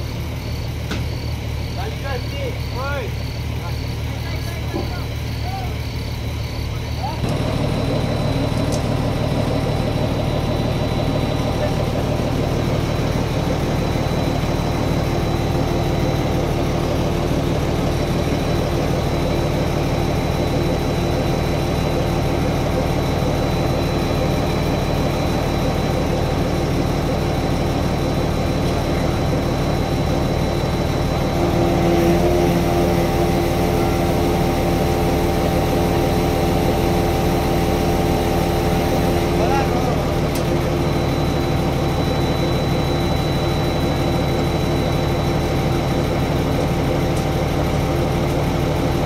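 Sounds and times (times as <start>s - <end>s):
large engine running: 0.0s - 49.0s.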